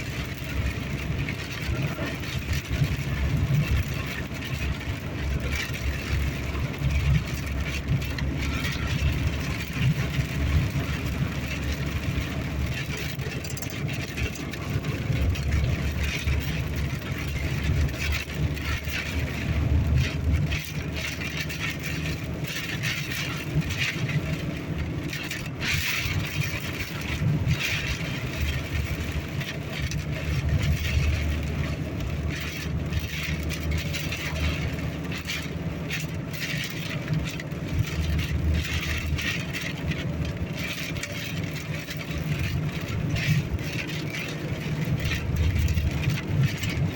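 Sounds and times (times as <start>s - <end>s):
engine and tyres rumbling: 0.0s - 46.9s.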